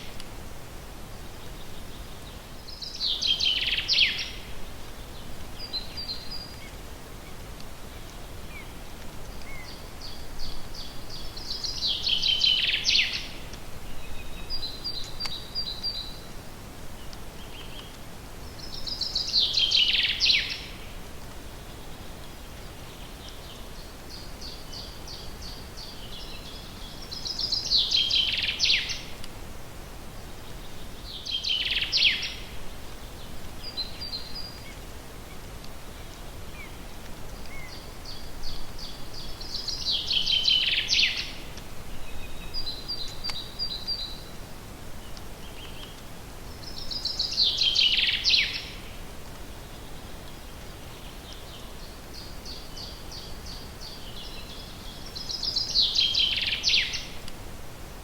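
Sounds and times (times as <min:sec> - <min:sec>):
songbird singing: 0:01.2 - 0:29.4, 0:30.0 - 0:58.0.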